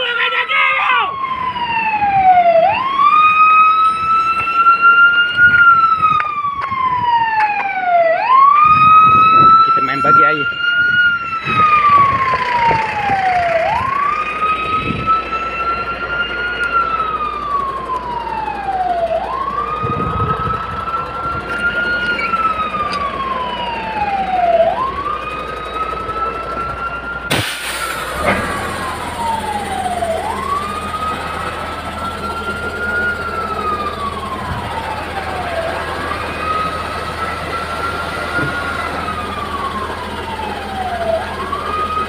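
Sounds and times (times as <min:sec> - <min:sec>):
fire engine siren wailing: 0:00.0 - 0:42.0.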